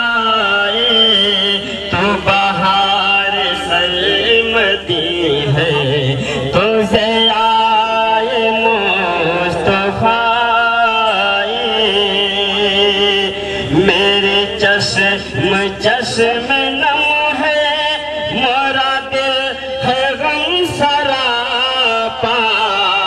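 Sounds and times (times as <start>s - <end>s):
man singing into a microphone: 0.0s - 23.0s
steady drone: 0.0s - 23.0s.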